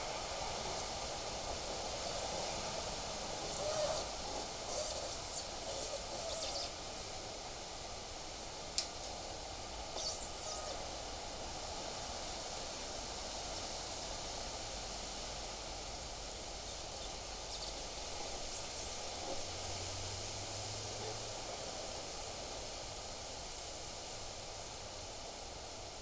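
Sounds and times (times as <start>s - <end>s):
wind rustling through trees: 0.0s - 26.0s.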